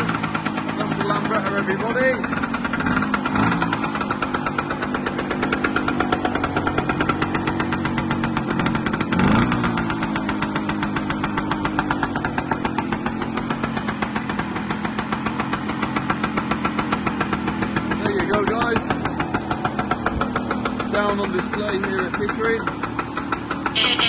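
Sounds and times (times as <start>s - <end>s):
scooter engine idling: 0.0s - 24.0s.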